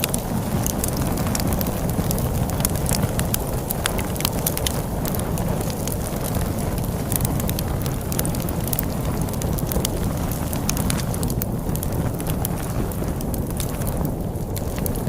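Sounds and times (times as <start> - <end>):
storm wind rumble: 0.0 - 15.0
wood fire crackling: 0.0 - 15.0.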